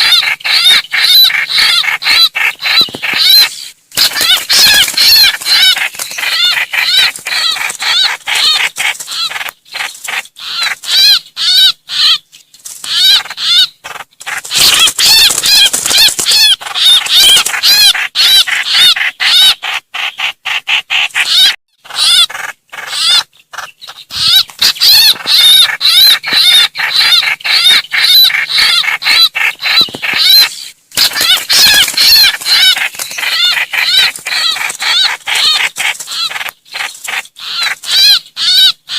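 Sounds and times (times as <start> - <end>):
bird distress calls: 0.0 - 12.3, 12.9 - 38.9.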